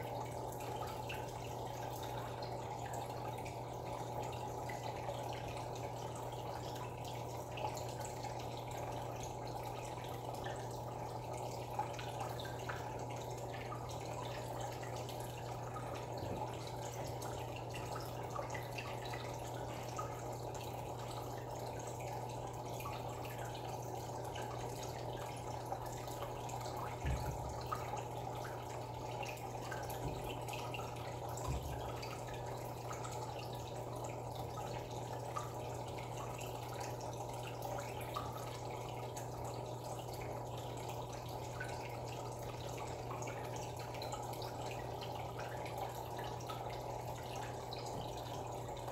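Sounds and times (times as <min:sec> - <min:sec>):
low electric hum: 0:00.0 - 0:48.9
water trickling and dripping: 0:00.0 - 0:48.9.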